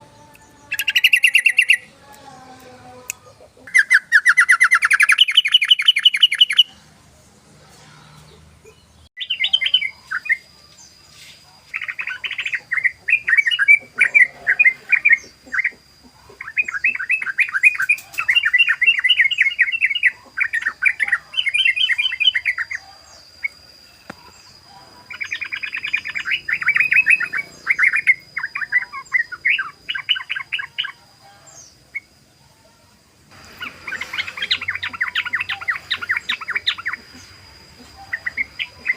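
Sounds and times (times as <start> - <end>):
bird chattering song: 0.0 - 2.2, 3.0 - 6.8, 8.2 - 32.2, 33.3 - 38.9.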